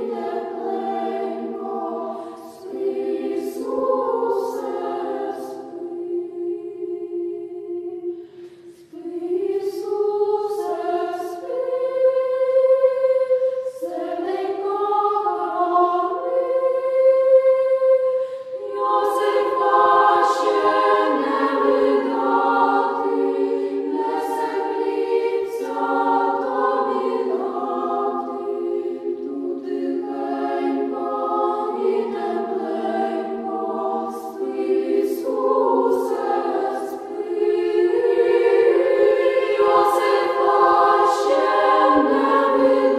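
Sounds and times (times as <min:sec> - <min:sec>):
choir singing sacred song: 0:00.0 - 0:42.9.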